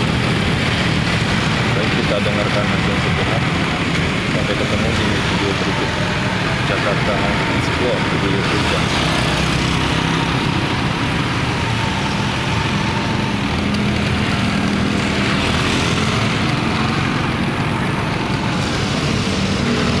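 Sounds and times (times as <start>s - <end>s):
motor engines running: 0.0s - 20.0s
tyres hissing on wet asphalt: 0.0s - 20.0s.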